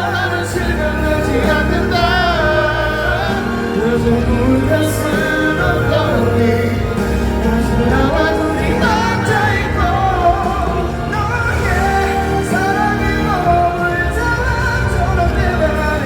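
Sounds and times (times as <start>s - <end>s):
ballad singing over sound system: 0.0s - 16.0s.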